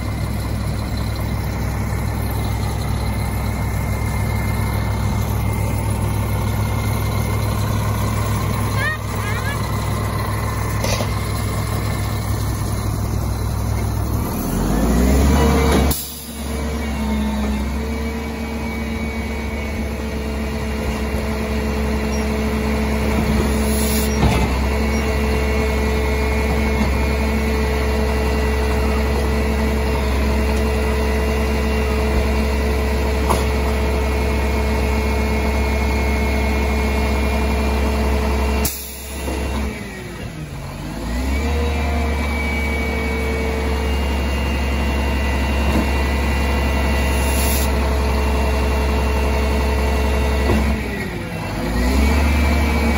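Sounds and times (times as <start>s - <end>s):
diesel truck engine rumbling: 0.0s - 52.9s.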